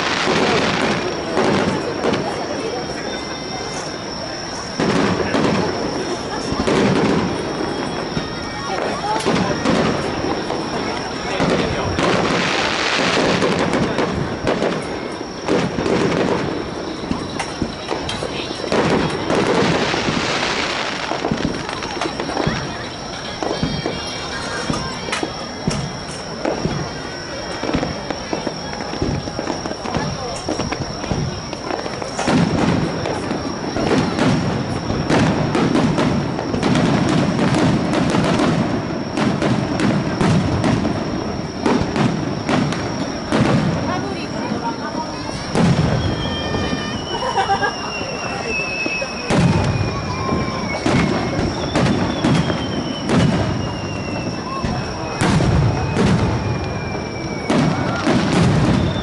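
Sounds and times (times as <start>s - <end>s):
fireworks crackling and booming: 0.0s - 59.0s.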